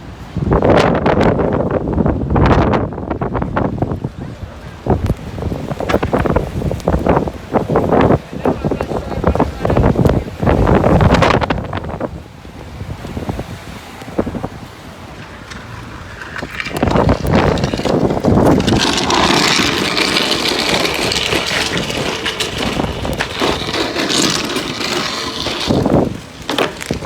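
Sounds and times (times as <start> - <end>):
wind gusts on microphone: 0.0 - 27.0.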